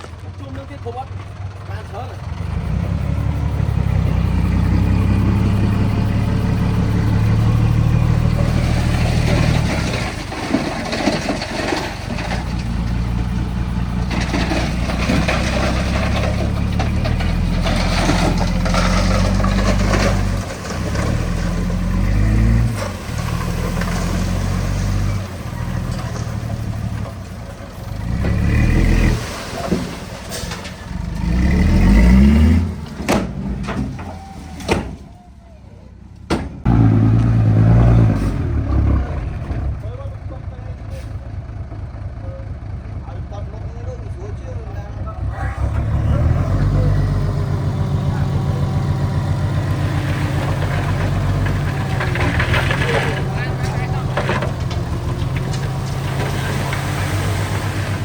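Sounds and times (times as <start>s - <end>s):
machinery clatter: 0.0s - 35.0s, 44.8s - 58.0s
heavy diesel engine under load: 0.0s - 58.0s.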